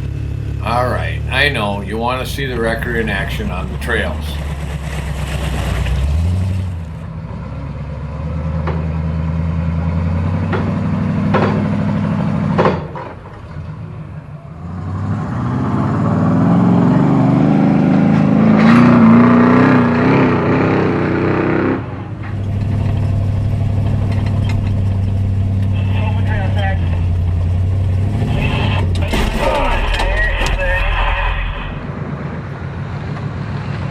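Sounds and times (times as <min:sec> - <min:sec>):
engine revving under load: 0:00.0 - 0:32.7
truck engines running: 0:00.0 - 0:33.9.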